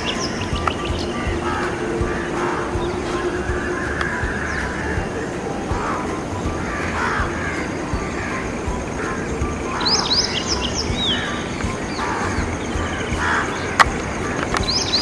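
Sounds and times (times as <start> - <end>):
outdoor background: 0.0 - 15.0
small birds chirping: 0.0 - 15.0.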